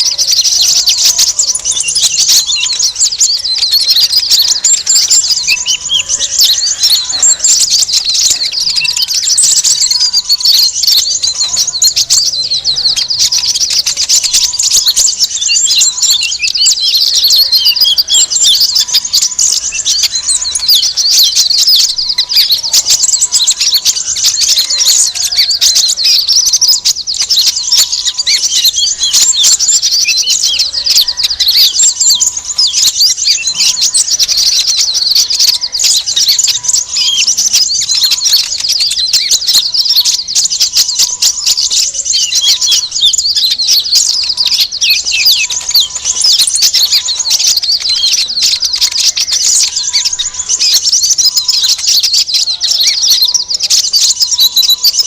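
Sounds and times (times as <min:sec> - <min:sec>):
flock of small birds chirping: 0:00.0 - 0:55.0.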